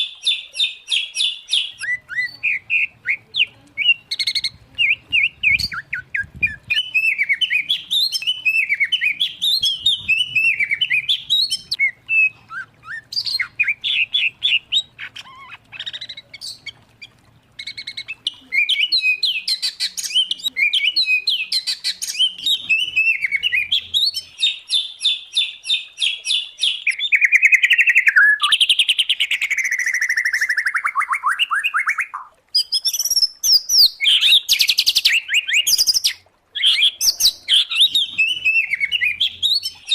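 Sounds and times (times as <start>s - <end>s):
songbirds singing whistles and trills: 0.0s - 39.9s.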